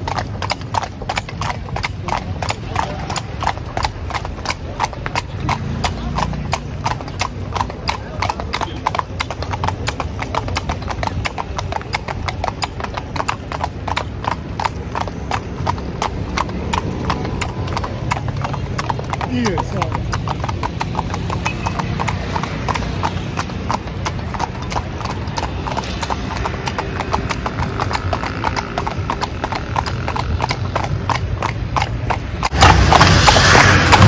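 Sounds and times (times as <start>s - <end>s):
horse hooves clip-clopping on asphalt: 0.0s - 34.0s.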